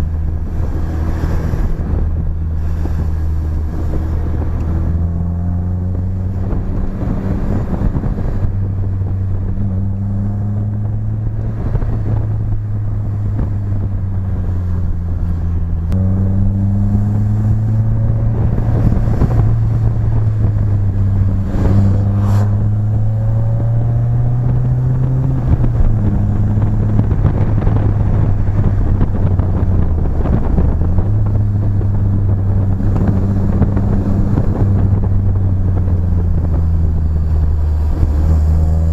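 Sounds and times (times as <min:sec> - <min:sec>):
car engine and exhaust running: 0:00.0 - 0:38.9.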